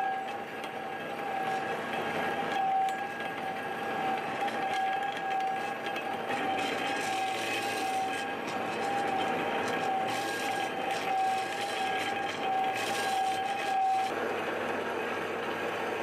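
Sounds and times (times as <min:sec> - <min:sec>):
metal scraping: 0:00.0 - 0:14.1
high-pitched whine: 0:00.0 - 0:14.2
lathe running: 0:00.0 - 0:16.0.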